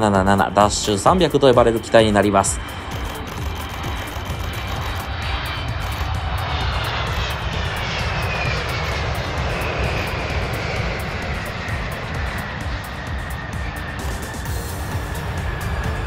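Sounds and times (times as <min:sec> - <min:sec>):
jet engines rumble and whine: 0:00.0 - 0:16.0.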